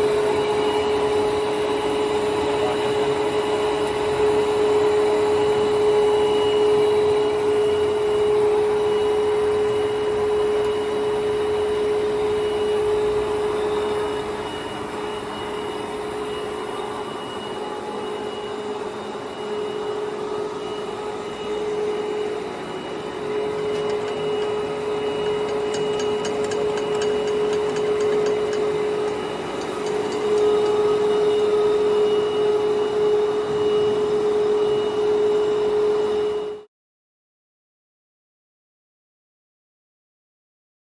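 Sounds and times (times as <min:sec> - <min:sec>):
machine hum: 0:00.0 - 0:36.6
lathe gear whine: 0:00.0 - 0:36.7.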